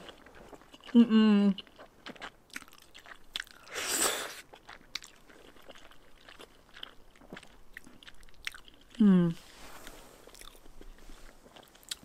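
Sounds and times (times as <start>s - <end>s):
soft wet chewing clicks: 0.0s - 3.7s, 4.4s - 9.0s, 9.8s - 12.0s.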